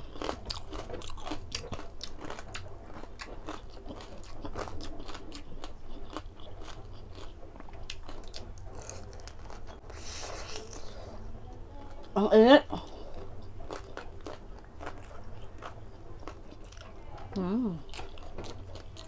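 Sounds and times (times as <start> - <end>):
chewing crispy fried pork: 0.0 - 19.0.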